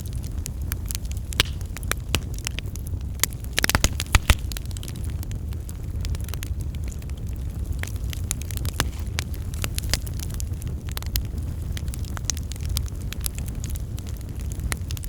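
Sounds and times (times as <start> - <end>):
low fire rumble: 0.0 - 15.0
wood crackling and popping: 0.0 - 15.0.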